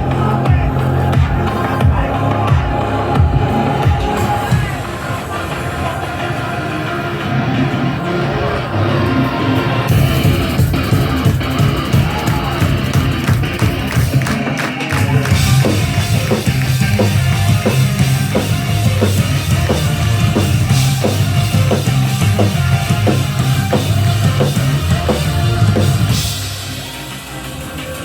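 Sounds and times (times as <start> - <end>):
drum kit steady rhythm: 0.0 - 6.3, 9.9 - 28.0
heavy bass line: 0.0 - 28.0
rock band playing: 0.0 - 28.0.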